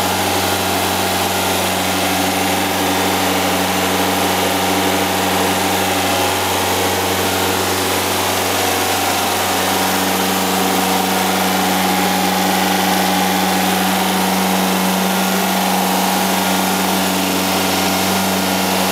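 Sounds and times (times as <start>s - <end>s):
air-cooled engine running steadily: 0.0s - 18.9s.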